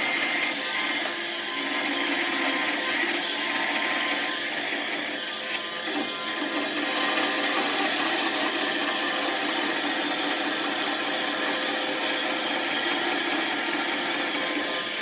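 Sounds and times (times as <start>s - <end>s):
wood lathe scraping: 0.0s - 15.0s.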